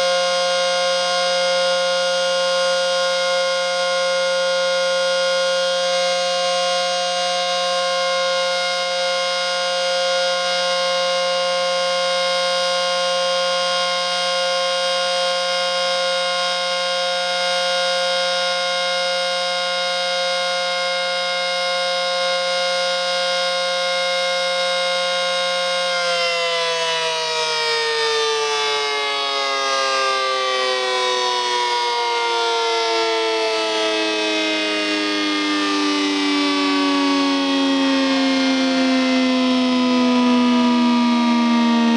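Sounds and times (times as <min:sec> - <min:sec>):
warning siren winding down: 0:00.0 - 0:41.9.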